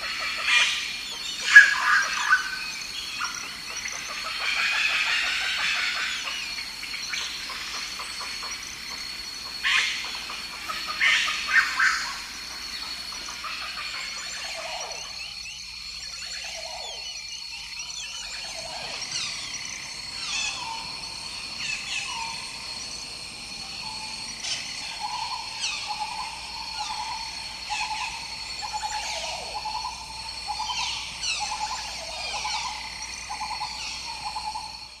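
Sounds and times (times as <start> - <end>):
high insect drone: 0.0 - 35.0
rapid pulsing animal call: 0.0 - 35.0.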